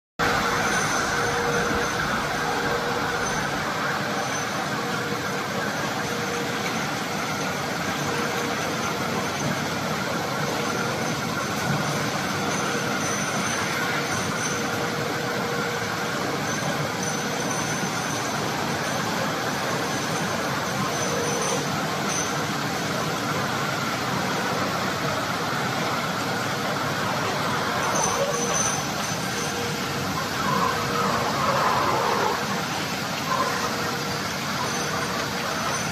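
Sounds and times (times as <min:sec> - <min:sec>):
faint high tones: 0:00.2 - 0:23.1, 0:27.1 - 0:35.9
jar conveyors mechanical noise: 0:00.2 - 0:35.9.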